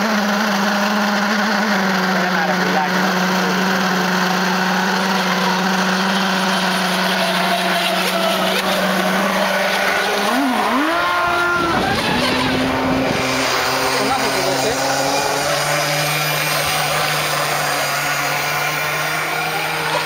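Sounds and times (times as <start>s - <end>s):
model boat motor running: 0.0s - 20.0s.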